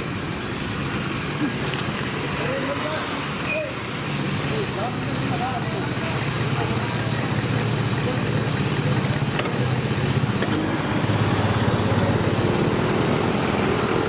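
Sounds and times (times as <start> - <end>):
outdoor street noise: 0.0 - 14.0
vehicle engine running: 0.0 - 14.0.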